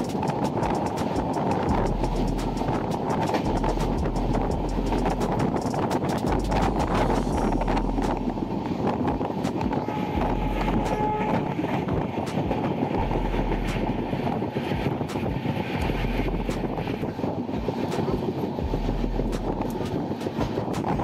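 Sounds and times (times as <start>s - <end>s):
clickety-clack track knocks: 0.0s - 7.4s, 8.0s - 13.0s, 13.6s - 18.6s, 19.3s - 21.0s
train wheels rumbling on rail: 0.0s - 21.0s.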